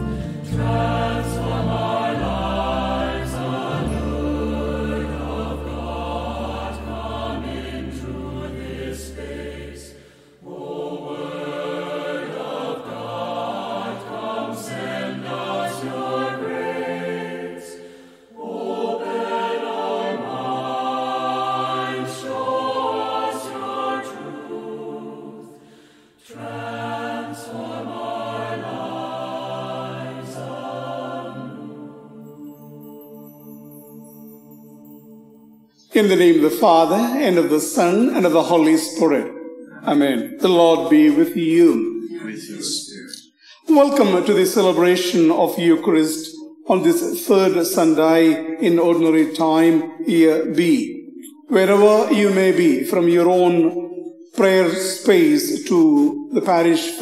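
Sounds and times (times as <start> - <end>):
voices singing a hymn: 0.0 - 57.0.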